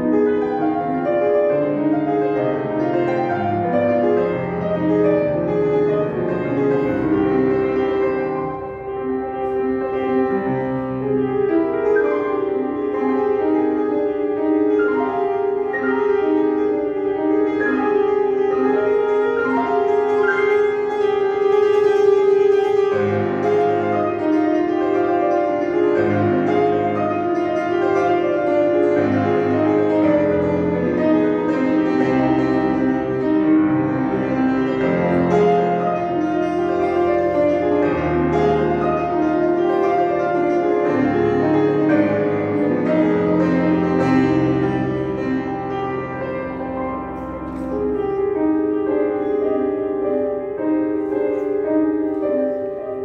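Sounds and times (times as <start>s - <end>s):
solo grand piano: 0.0s - 53.0s.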